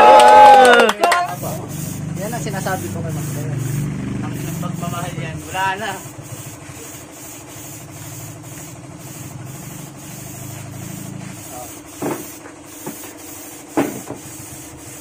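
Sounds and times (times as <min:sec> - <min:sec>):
motor hum: 0:01.2 - 0:15.0
spray gun hissing: 0:01.3 - 0:15.0.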